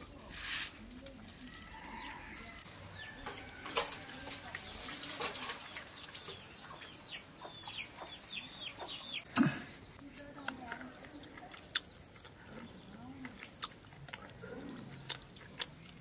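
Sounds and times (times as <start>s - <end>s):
chickens clucking: 1.3s - 15.8s.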